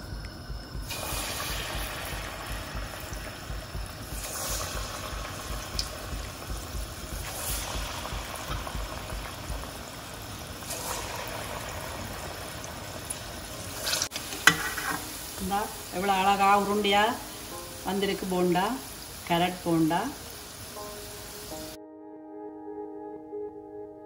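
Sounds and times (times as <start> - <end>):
batter deep-frying in oil: 0.0 - 21.8.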